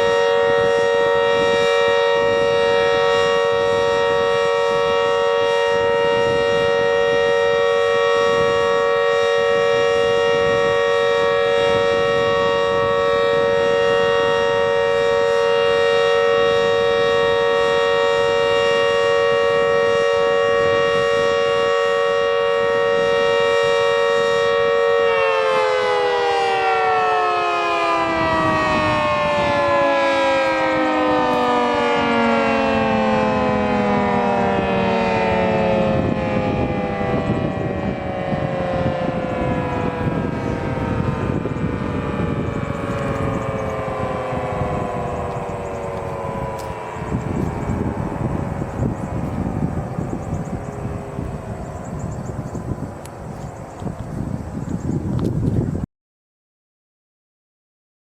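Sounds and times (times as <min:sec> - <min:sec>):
warning siren winding down: 0:00.0 - 0:55.9.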